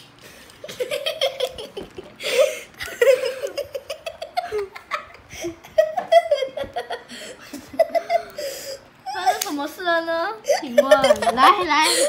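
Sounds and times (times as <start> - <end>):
child giggling: 0.7 - 9.5, 10.4 - 12.0.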